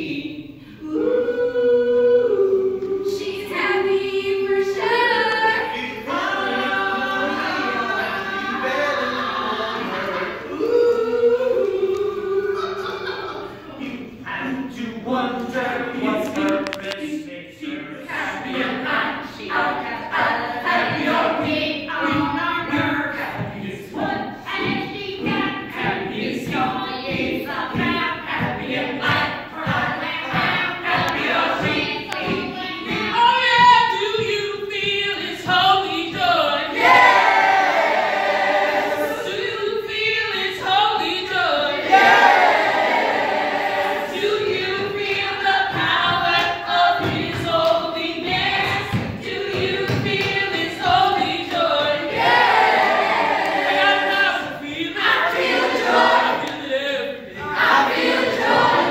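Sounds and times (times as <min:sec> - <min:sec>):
group of teenagers singing gospel: 0:00.0 - 0:58.9.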